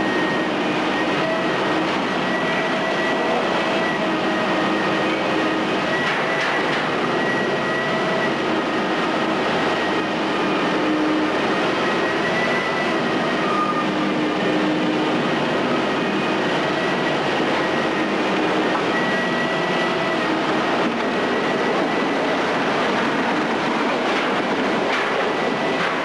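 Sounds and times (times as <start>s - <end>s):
excavator machinery din: 0.0s - 26.0s.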